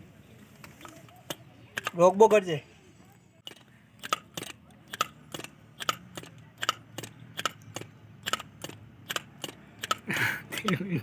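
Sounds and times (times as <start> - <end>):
sharp metallic clicks: 0.6 - 2.4, 3.4 - 11.0.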